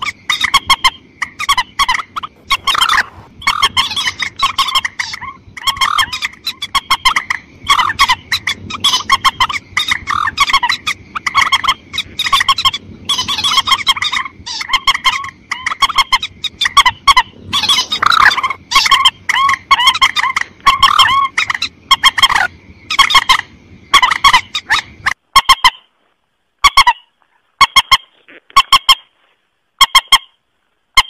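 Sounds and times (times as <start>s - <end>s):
waterbird harsh clucking calls: 0.0s - 25.9s, 27.6s - 29.1s, 29.8s - 30.4s.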